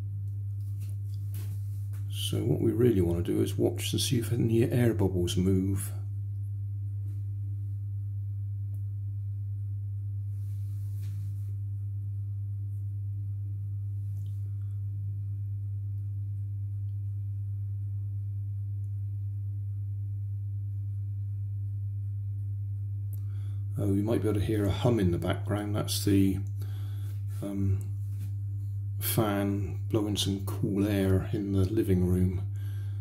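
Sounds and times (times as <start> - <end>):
electric fan humming: 0.0 - 33.0.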